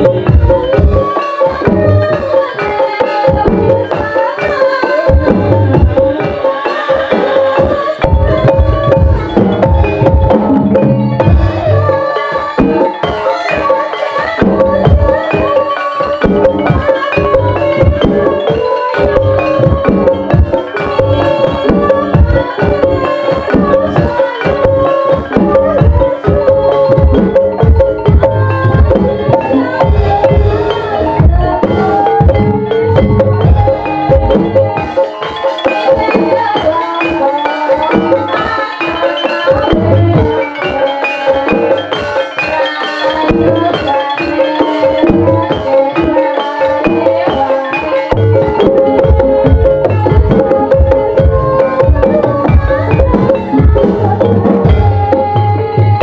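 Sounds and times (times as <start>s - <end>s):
tuned mallet percussion melody: 0.0s - 56.0s.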